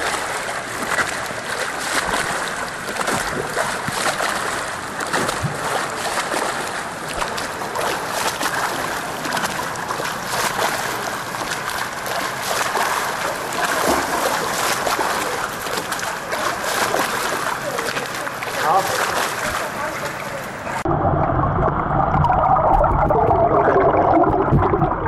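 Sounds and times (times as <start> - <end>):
pool water splashing from swimming: 0.0 - 25.0.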